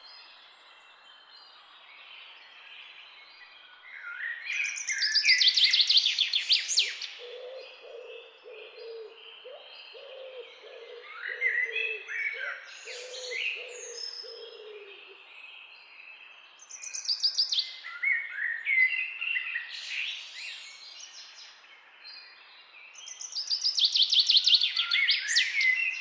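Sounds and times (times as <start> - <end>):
birds calling and singing: 0.0 - 26.0.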